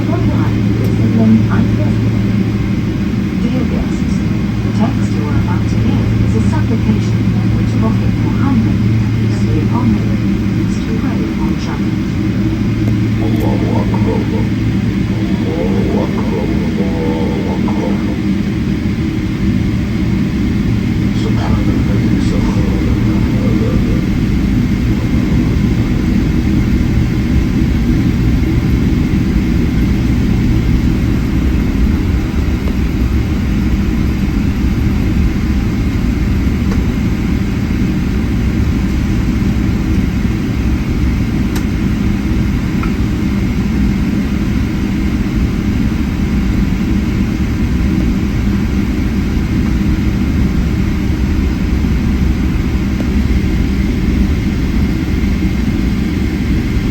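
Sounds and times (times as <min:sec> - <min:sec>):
jet engine low rumble: 0:00.0 - 0:56.9.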